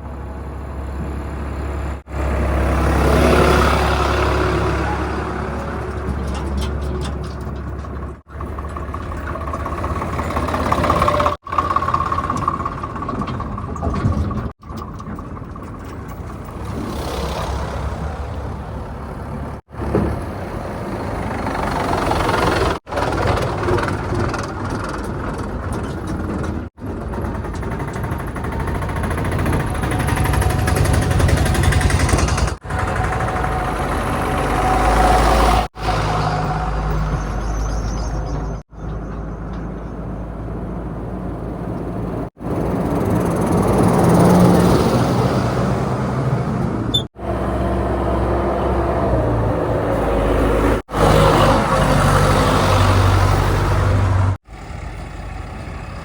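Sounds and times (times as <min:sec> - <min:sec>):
diesel engines working: 0:00.0 - 0:56.0.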